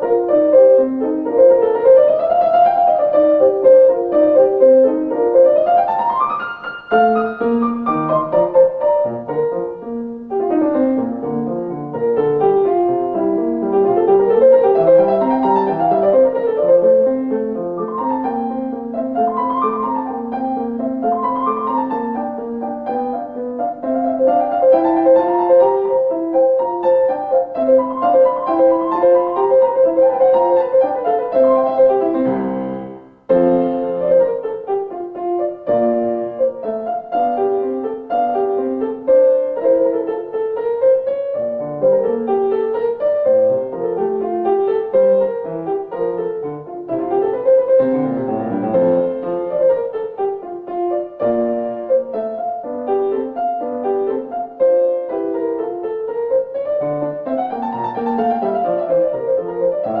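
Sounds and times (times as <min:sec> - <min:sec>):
solo classical piano: 0:00.0 - 1:00.0.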